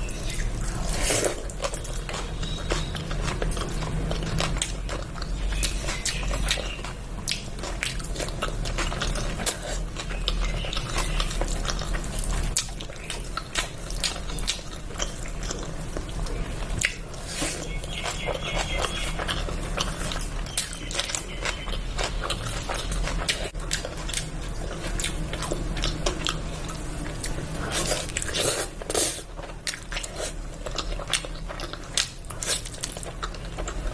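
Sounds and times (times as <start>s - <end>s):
chewing and biting: 0.3s - 33.9s.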